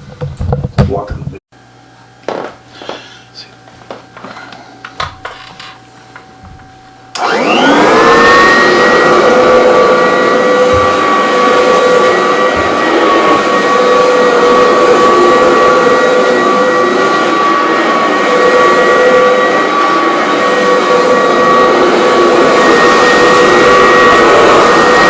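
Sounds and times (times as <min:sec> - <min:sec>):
vacuum cleaner motor whining: 0:03.7 - 0:25.0.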